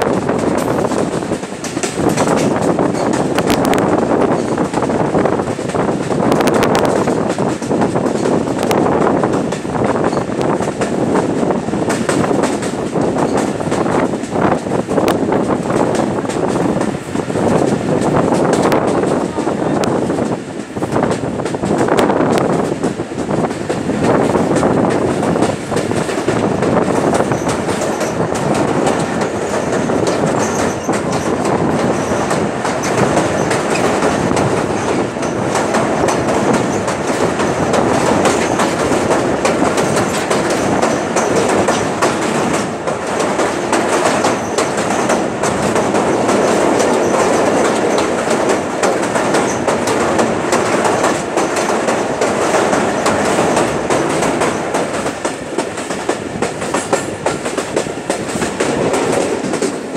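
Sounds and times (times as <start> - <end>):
train wheels rattling on rails: 0.0 - 59.9.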